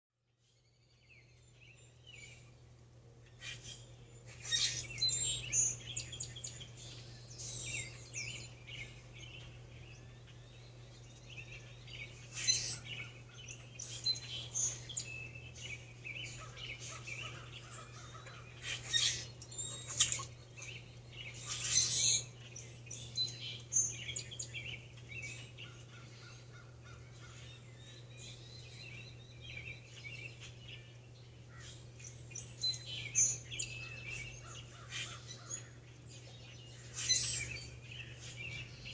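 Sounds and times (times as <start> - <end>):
songbirds chirping: 0.5 - 38.9.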